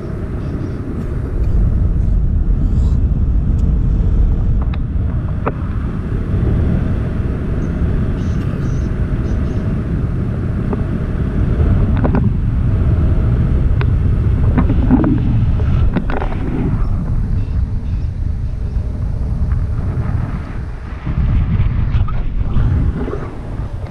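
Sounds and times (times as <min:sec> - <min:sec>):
wind rumble on microphone: 0:00.0 - 0:23.9.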